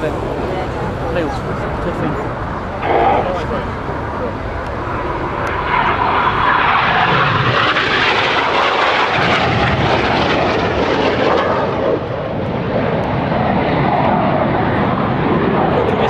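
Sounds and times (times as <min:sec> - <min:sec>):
jet aircraft roar: 0:00.0 - 0:16.0.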